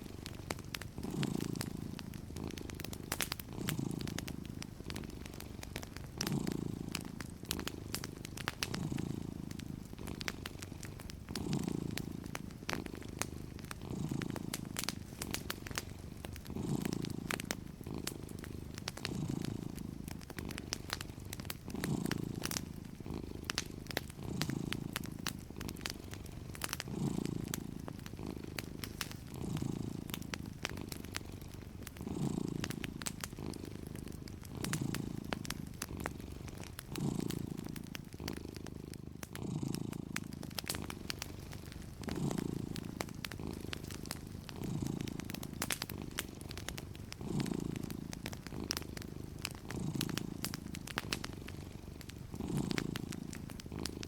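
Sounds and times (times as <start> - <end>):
cat purring: 0.0 - 54.0
fireplace crackling: 0.0 - 54.0.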